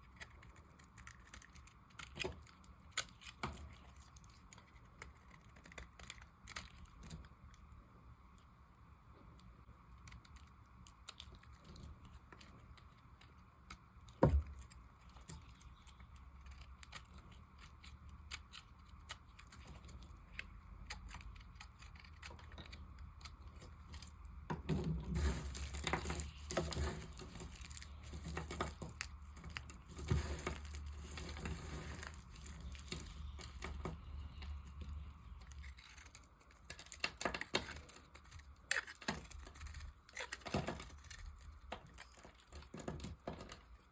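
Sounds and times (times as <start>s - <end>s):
knife carving dry soap: 0.0s - 8.6s, 9.2s - 43.9s.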